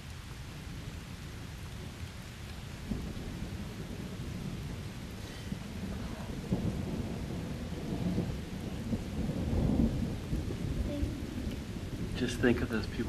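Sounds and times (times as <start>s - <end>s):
thunder rumbling and crackling: 0.0s - 13.0s.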